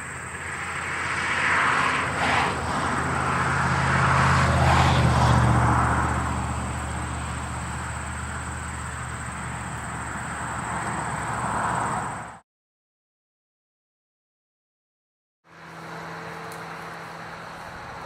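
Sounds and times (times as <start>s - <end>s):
vehicle engine passing: 0.0s - 12.4s, 15.5s - 18.0s.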